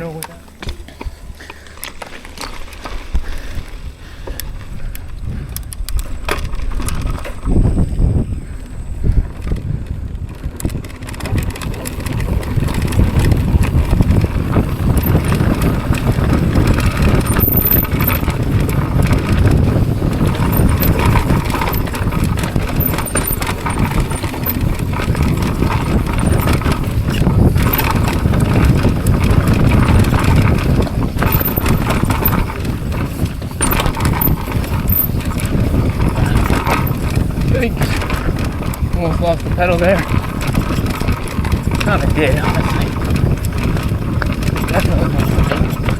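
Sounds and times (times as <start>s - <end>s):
bike rattling over bumps: 0.0s - 45.9s
tyre rumble over dirt and rocks: 0.3s - 45.9s.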